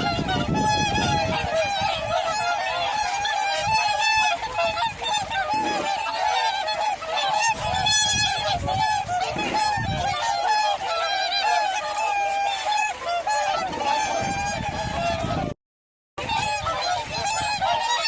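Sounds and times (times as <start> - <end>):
swans honking: 0.0 - 15.6, 16.2 - 18.0.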